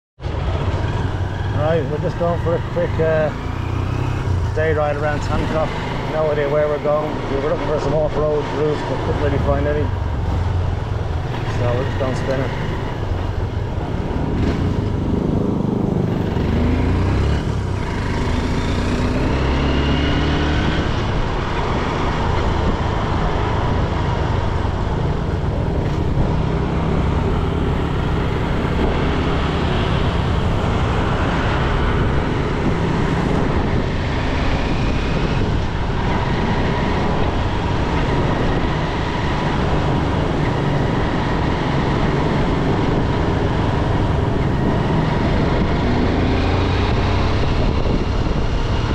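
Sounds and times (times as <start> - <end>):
wind rush: 3.0 - 48.9.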